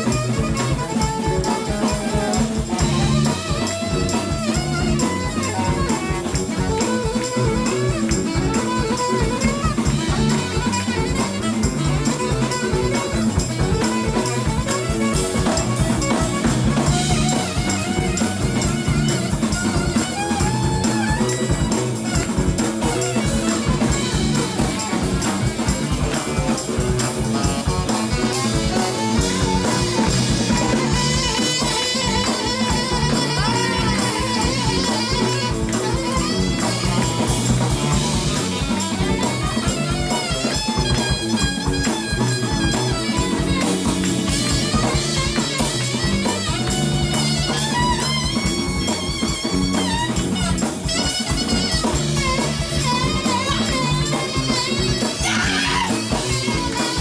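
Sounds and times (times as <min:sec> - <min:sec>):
drum kit beat: 0:00.0 - 0:57.0
live band playing: 0:00.0 - 0:57.0
saxophone melody: 0:00.0 - 0:57.0.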